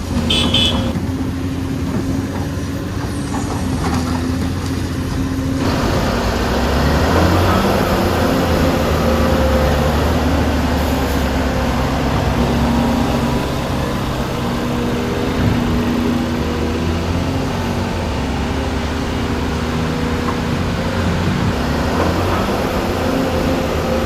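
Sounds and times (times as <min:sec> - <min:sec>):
diesel engine rumbling under work: 0:00.0 - 0:24.0.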